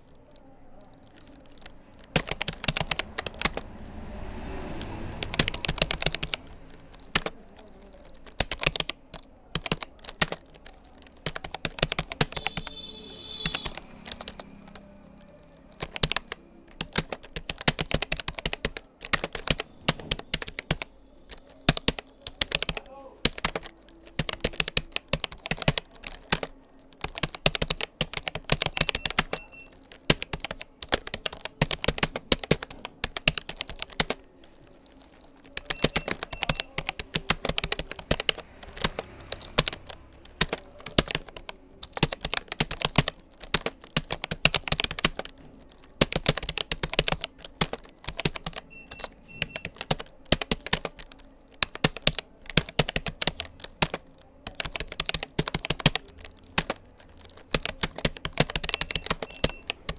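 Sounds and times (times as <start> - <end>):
keyboard key clicks: 4.8 - 34.2, 34.8 - 59.9.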